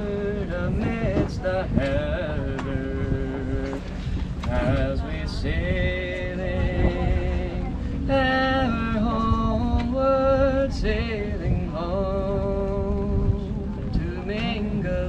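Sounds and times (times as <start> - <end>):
low rumble: 0.0 - 15.0
voices singing: 0.0 - 15.0.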